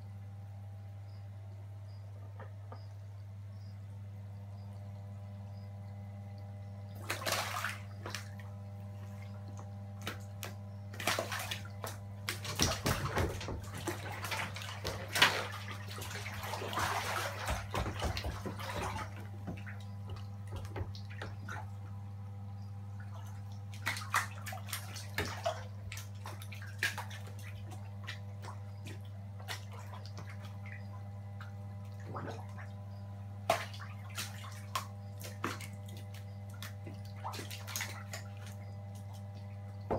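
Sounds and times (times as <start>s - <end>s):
steady low hum: 0.0s - 39.9s
caiman splashing in water: 6.7s - 22.0s, 22.9s - 39.9s.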